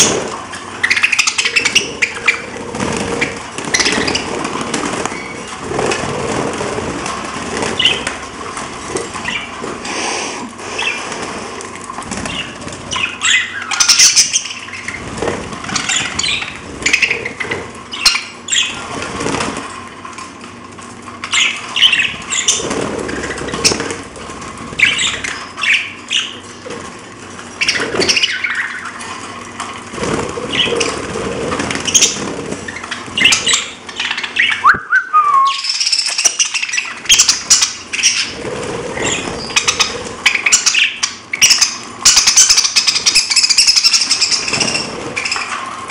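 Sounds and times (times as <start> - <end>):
parrots chirping and squawking: 0.0 - 34.7, 35.5 - 45.9.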